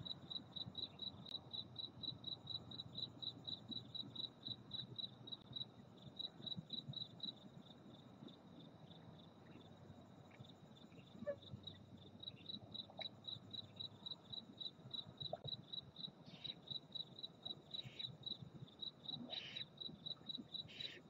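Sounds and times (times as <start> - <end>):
cricket chirping: 0.0 - 21.0
faint background hiss: 0.0 - 21.0.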